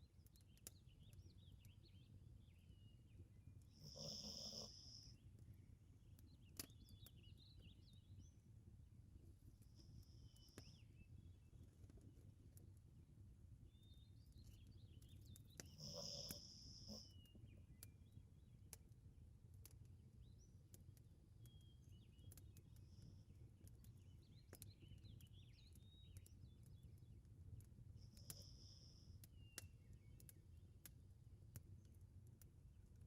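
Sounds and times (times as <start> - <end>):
faint low room rumble: 0.0 - 33.0.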